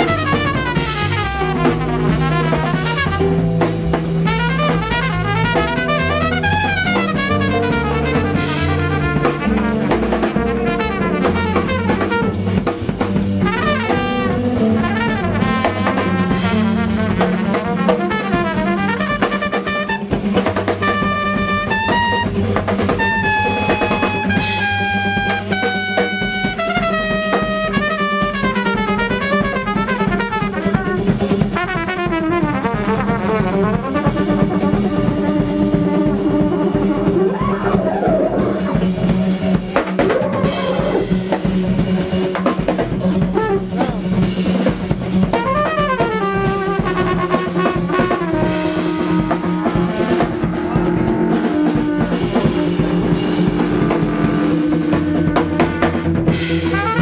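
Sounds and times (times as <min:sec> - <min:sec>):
bass: 0:00.0 - 0:57.0
drum kit: 0:00.0 - 0:57.0
jazz trumpet soloing: 0:00.0 - 0:57.0.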